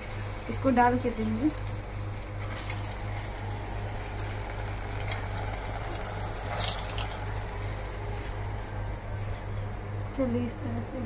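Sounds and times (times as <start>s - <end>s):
batter sizzling in hot oil: 0.0s - 10.1s
oil crackle: 0.0s - 10.2s.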